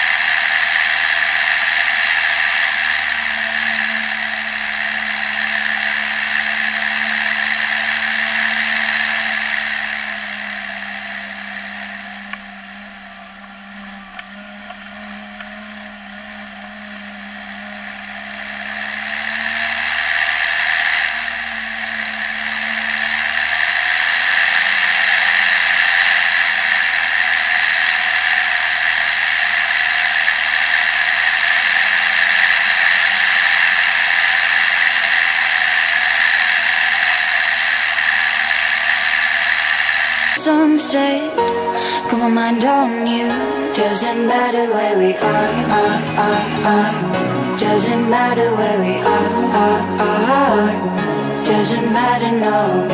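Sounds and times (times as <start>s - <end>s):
tractor diesel engine: 0.0s - 52.9s.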